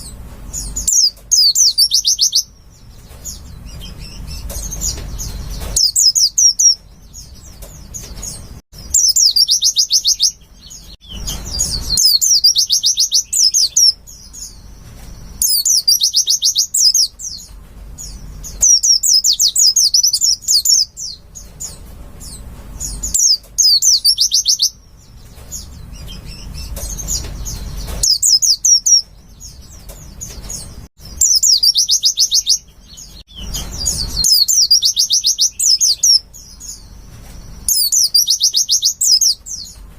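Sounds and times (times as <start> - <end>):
bird twittering: 0.0 - 39.8.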